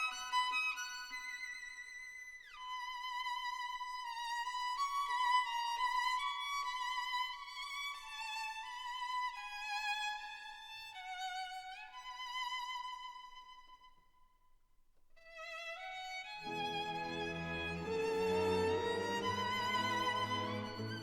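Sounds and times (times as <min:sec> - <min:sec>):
solo violin slow melody: 0:00.0 - 0:13.9, 0:15.2 - 0:21.0.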